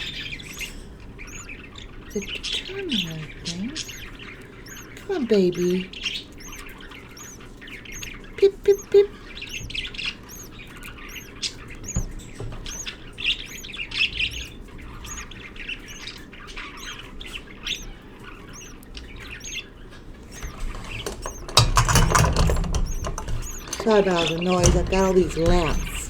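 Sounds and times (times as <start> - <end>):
budgerigars chattering and squawking: 0.0 - 26.0
thin high chirp: 0.0 - 26.0.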